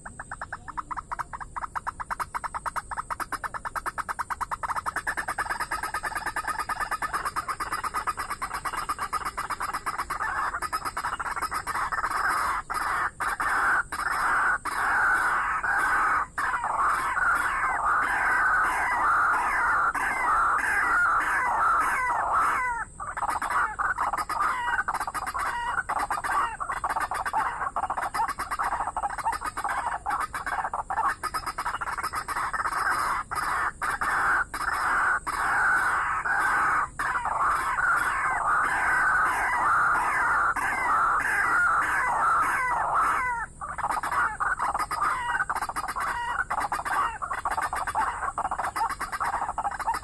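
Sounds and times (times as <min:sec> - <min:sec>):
bird clucking calls: 0:00.0 - 0:50.0
steady high hiss: 0:00.0 - 0:50.0.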